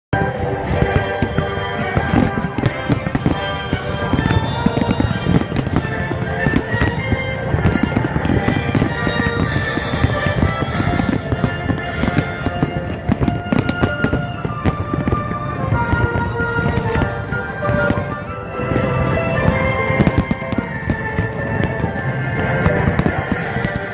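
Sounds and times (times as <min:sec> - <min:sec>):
fireworks bangs and crackles: 0:00.2 - 0:23.9
music with sustained notes: 0:00.2 - 0:23.9.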